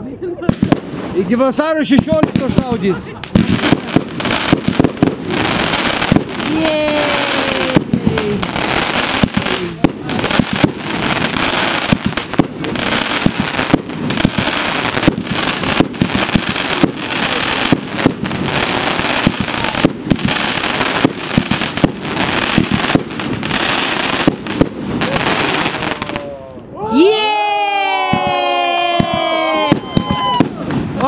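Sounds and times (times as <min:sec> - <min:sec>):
fireworks crackling: 0:00.0 - 0:26.4, 0:27.0 - 0:31.0
fireworks bangs: 0:00.4 - 0:26.4, 0:27.0 - 0:31.0.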